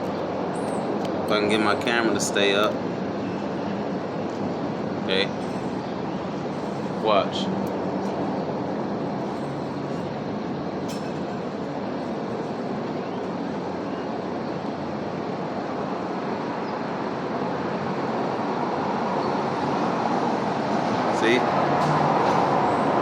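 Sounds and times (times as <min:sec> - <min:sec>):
passing vehicle traffic: 0:00.0 - 0:23.0.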